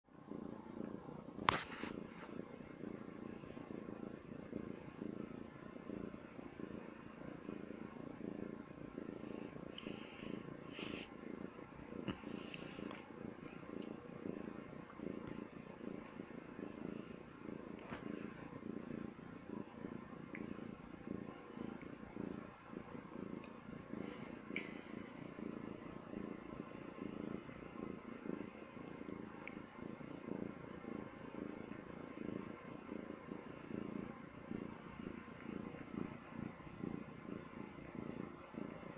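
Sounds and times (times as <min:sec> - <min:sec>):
cat purring: 0:00.1 - 0:38.9.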